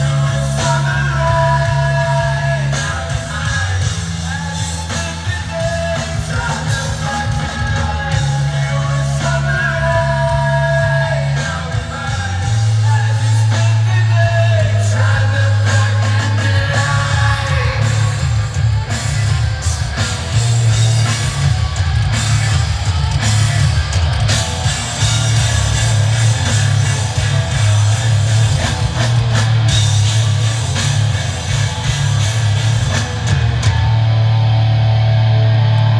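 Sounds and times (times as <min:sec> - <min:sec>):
drum kit: 0:00.0 - 0:35.9
electric guitar: 0:00.0 - 0:35.9
heavy bass line: 0:00.0 - 0:35.9.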